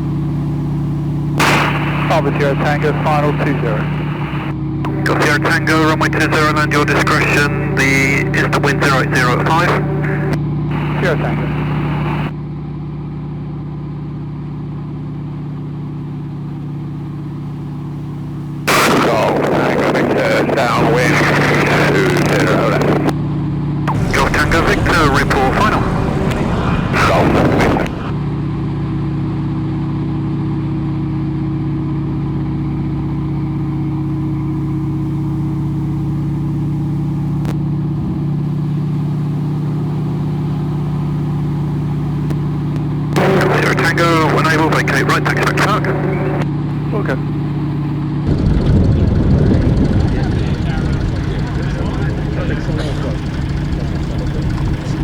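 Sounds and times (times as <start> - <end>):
radial aircraft engine droning: 0.0 - 12.4, 15.6 - 23.1, 23.9 - 28.8, 30.4 - 55.0.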